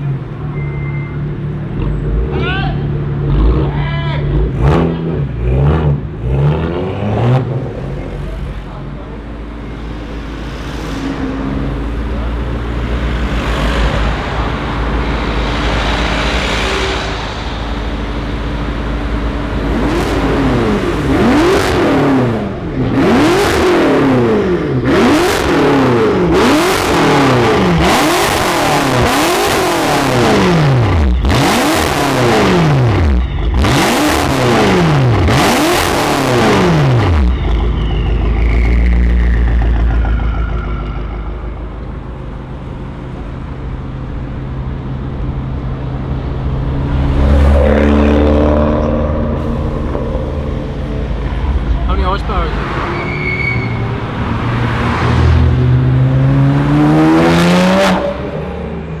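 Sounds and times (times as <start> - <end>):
car engine revving: 1.2 - 59.0.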